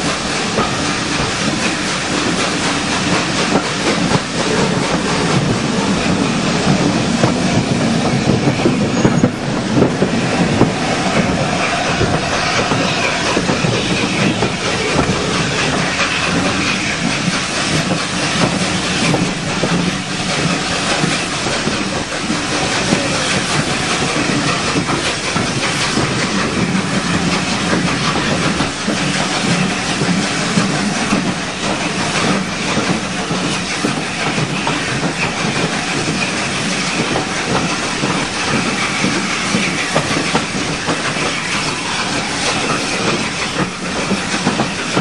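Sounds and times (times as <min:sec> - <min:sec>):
train wheels on rails: 0:00.0 - 0:45.0.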